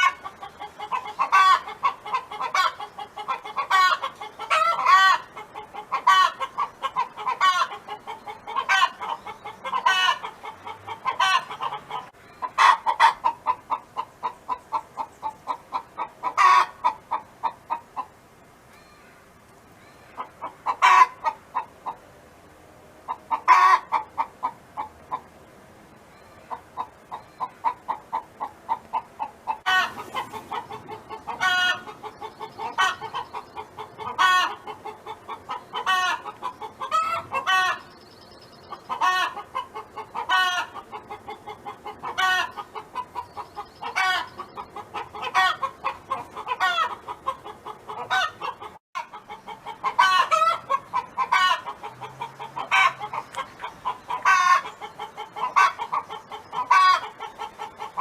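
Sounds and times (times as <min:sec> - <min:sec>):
hen clucking: 0:00.0 - 0:18.2, 0:19.8 - 0:22.0, 0:23.0 - 0:25.3, 0:26.1 - 0:58.0.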